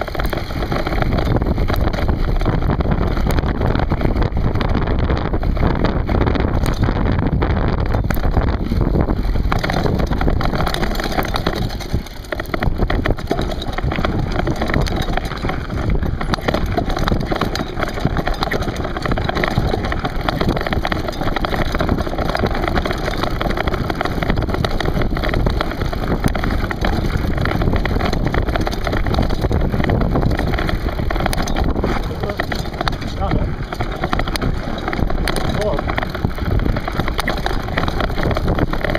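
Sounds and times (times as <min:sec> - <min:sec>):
camera rumbling and rattling: 0:00.0 - 0:38.9
tyres crunching on gravel: 0:00.0 - 0:38.9
wind buffeting microphone: 0:00.0 - 0:38.9.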